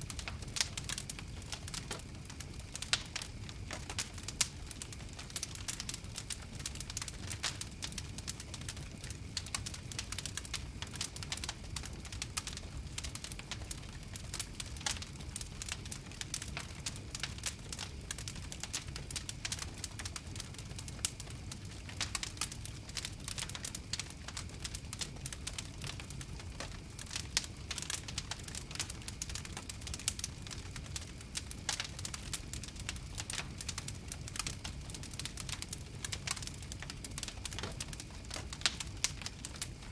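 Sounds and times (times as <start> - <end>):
low fire rumble: 0.0 - 39.9
wood fire snapping and popping: 0.0 - 39.9.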